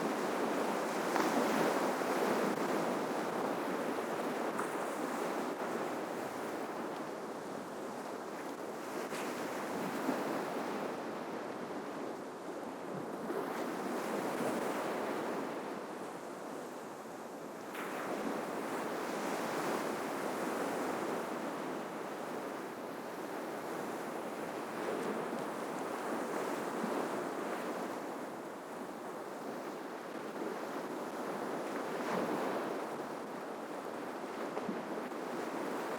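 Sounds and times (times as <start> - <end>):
ocean waves breaking on shore: 0.0 - 11.4, 17.6 - 35.9.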